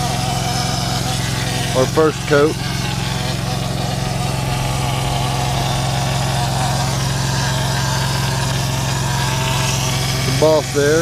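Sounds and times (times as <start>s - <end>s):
pump engine humming: 0.0s - 11.0s.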